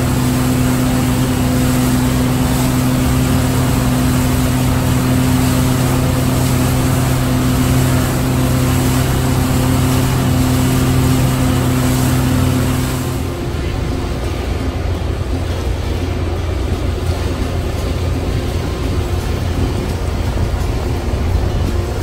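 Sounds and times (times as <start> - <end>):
motorboat engine drone: 0.0 - 22.0
rushing wake water: 0.0 - 22.0.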